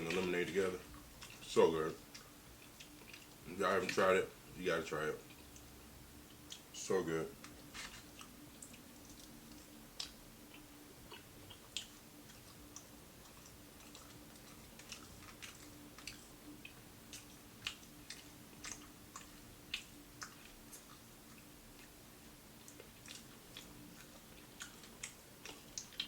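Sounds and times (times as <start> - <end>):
chewing crispy food: 0.0 - 26.0
faint steady hum: 0.0 - 26.0.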